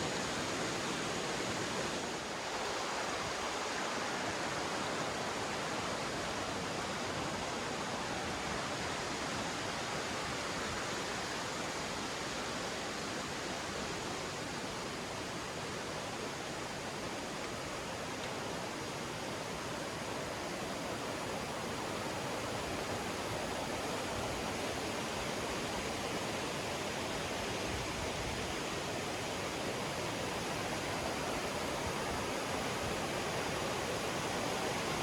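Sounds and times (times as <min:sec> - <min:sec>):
river flowing over rocks: 0:00.0 - 0:35.0.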